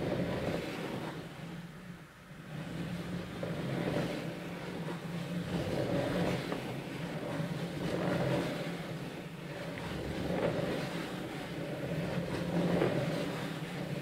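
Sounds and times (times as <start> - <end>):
rumbling whir of gears: 0.0 - 14.0.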